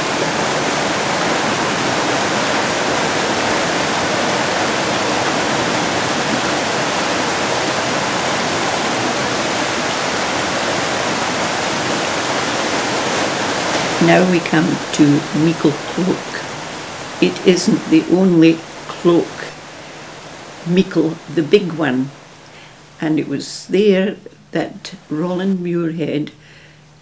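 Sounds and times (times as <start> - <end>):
river water rushing over boulders: 0.0 - 23.0.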